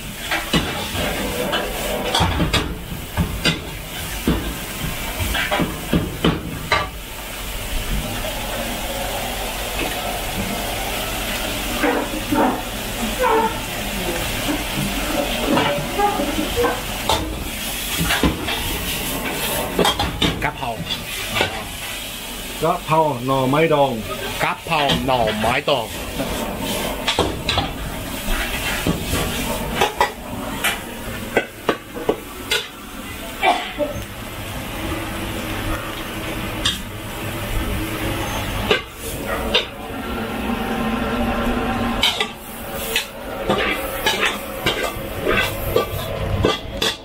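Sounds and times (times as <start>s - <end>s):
food sizzling: 0.0s - 47.0s
gas burner hissing: 0.0s - 47.0s.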